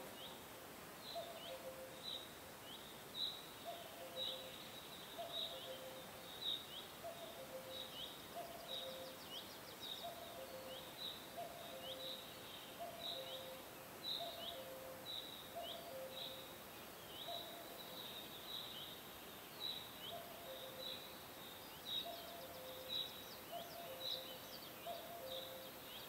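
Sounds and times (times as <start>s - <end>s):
faint ambience: 0.0s - 26.0s.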